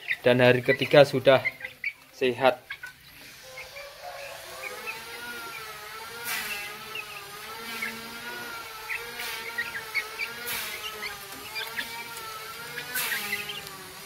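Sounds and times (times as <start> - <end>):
chicks peeping: 0.0 - 14.0
rustles and pecks: 0.0 - 14.0.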